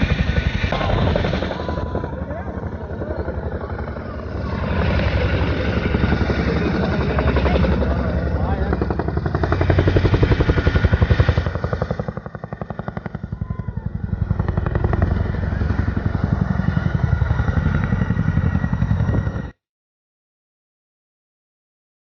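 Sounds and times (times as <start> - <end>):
helicopter rotor chop: 0.0 - 19.6.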